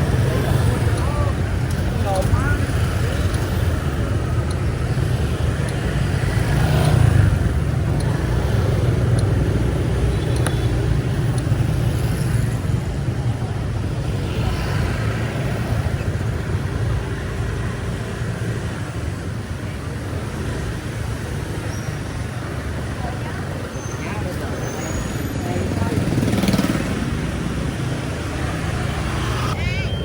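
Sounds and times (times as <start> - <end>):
low rumble of passing vehicles: 0.0 - 30.0.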